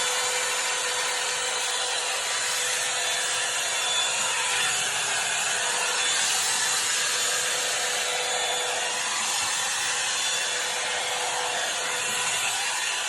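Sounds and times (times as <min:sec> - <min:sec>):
hair dryer brush blowing air: 0:00.0 - 0:13.0.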